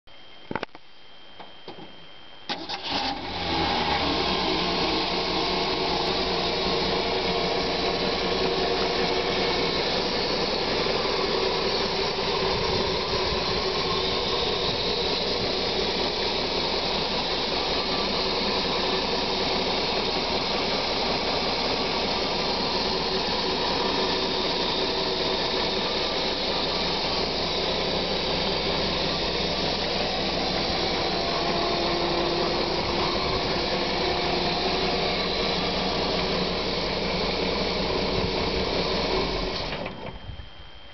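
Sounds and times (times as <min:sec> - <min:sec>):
truck engine starting and idling: 0:01.7 - 0:40.9.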